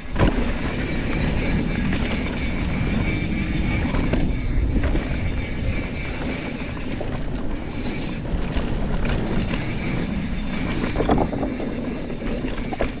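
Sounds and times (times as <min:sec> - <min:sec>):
bike rattling over ground: 0:00.0 - 0:13.0
wind rumbling on microphone: 0:00.0 - 0:13.0.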